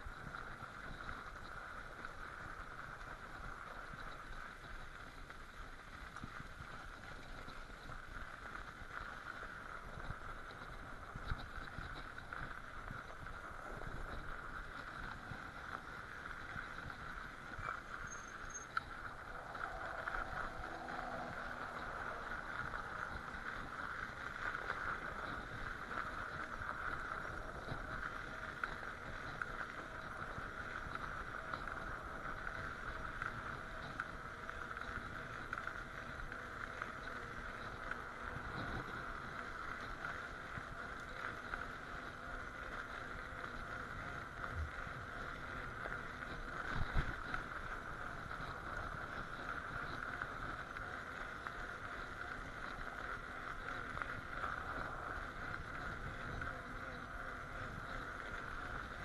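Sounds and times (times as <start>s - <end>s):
bike clicks and rattles: 0.0s - 59.0s
electric bicycle hum: 0.0s - 59.0s.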